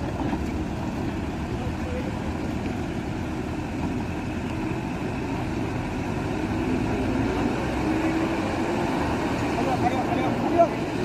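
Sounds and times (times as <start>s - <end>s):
truck engines rumbling: 0.0s - 11.0s.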